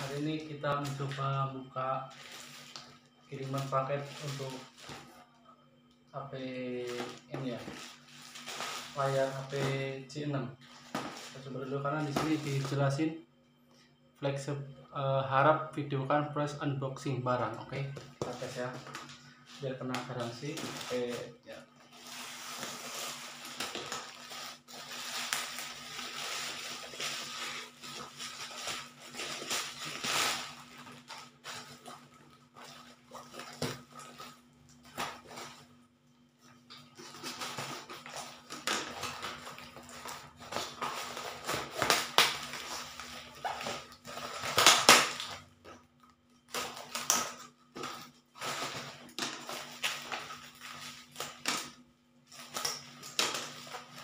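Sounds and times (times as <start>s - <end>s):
packaging rustling and tearing: 0.0s - 5.2s, 6.4s - 13.0s, 17.8s - 35.8s, 36.7s - 45.8s, 46.4s - 54.0s.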